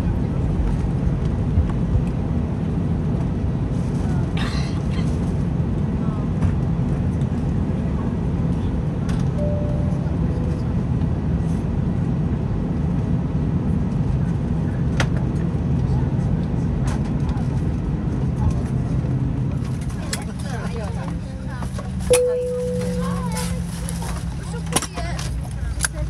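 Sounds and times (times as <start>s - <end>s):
airliner cabin rumble: 0.0s - 26.0s
murmur of passenger voices: 0.0s - 26.0s.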